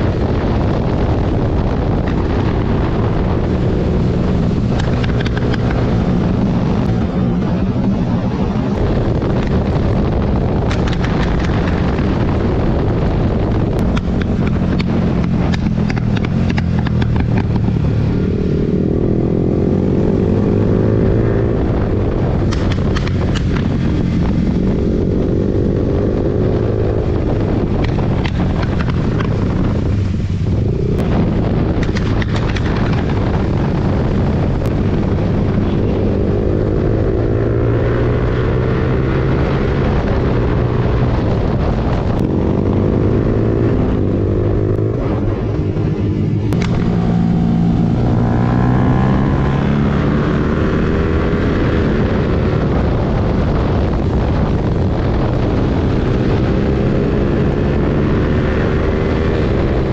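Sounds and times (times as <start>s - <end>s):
exhaust crackles and pops: 0.0s - 59.9s
motorcycle engine accelerating: 0.0s - 59.9s.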